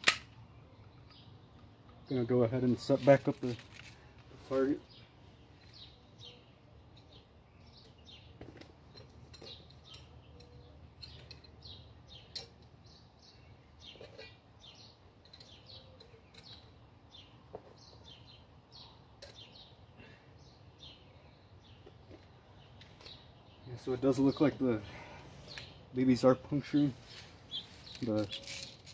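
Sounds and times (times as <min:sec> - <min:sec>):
small birds chirping: 0:00.3 - 0:28.9.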